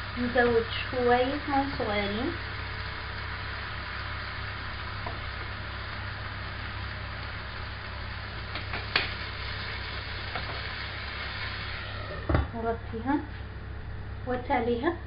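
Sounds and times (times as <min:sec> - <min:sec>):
food sizzling in frying pan: 0:00.0 - 0:14.4.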